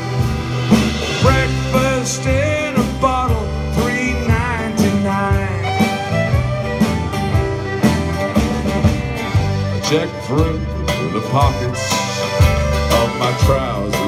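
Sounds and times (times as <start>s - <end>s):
accordion: 0.0s - 14.0s
banjo: 0.0s - 14.0s
fiddle melody: 0.0s - 14.0s
steady drum beat: 0.0s - 14.0s
strummed acoustic guitar: 0.0s - 14.0s.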